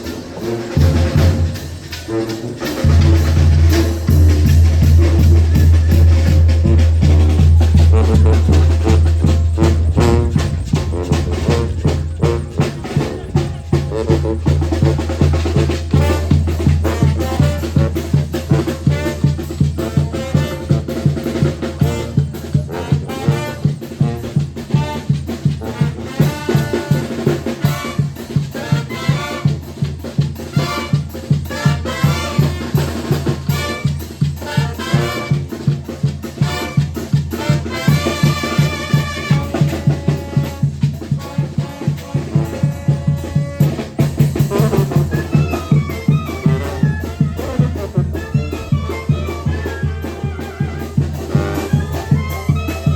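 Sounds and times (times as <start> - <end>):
brass band music: 0.0 - 52.9.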